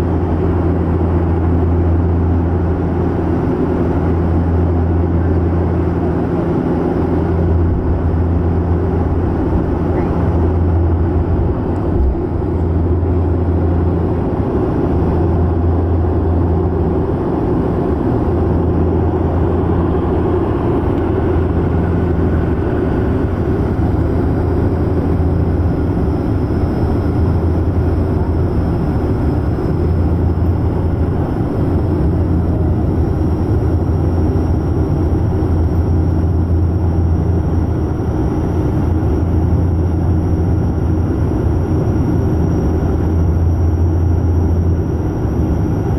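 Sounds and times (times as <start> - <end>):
aircraft engine drone: 0.0 - 45.9
rushing airflow: 2.2 - 45.9.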